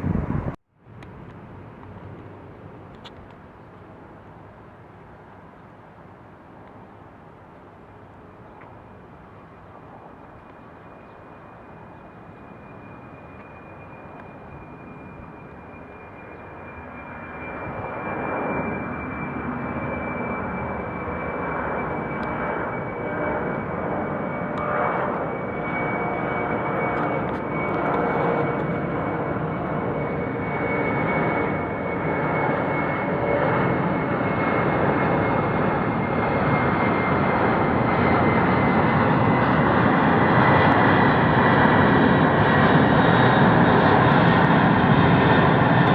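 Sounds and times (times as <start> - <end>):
jet engines whine and roar: 0.0 - 45.9.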